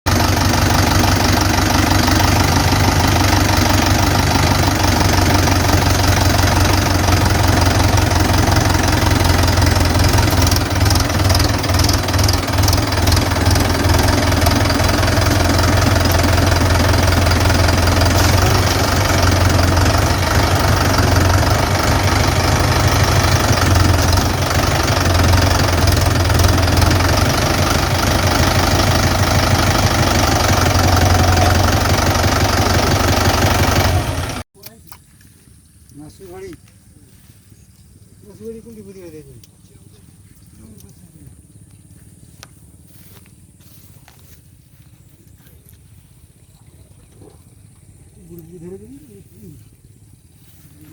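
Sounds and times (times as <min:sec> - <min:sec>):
tractor diesel engine humming: 0:00.0 - 0:50.9.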